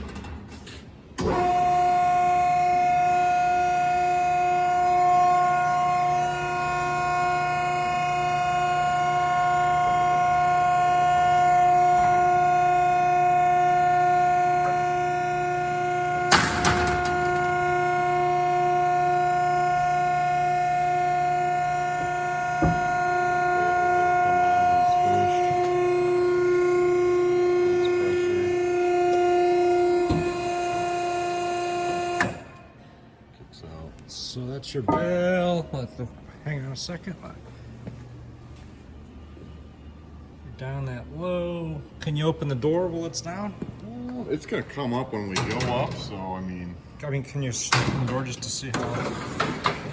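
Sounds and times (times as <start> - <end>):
hydraulic pump whine: 0.0 - 49.9.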